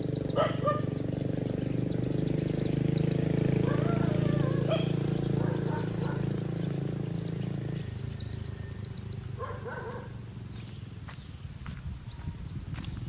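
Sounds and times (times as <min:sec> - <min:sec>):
sunbirds chirping: 0:00.0 - 0:13.0.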